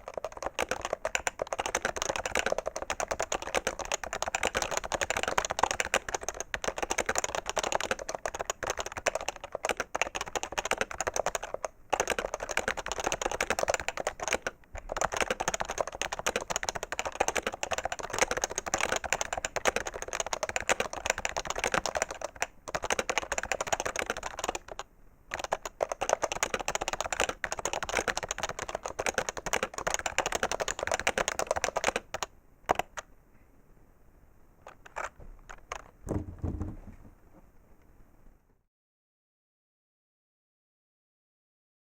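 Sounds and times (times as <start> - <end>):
fast keyboard typing: 0.0 - 33.1, 34.6 - 35.9.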